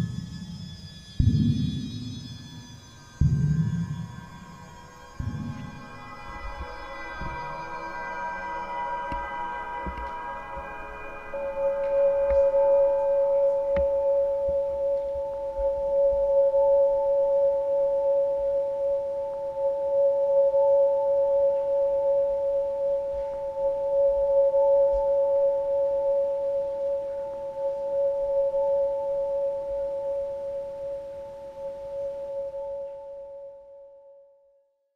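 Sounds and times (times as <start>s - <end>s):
two-note pure tone: 3.0s - 34.5s.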